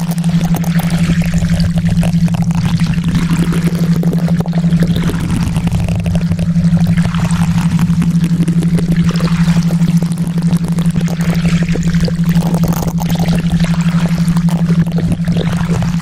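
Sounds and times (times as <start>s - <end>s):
crackling running water noise: 0.0s - 16.0s
steady low hum: 0.0s - 16.0s.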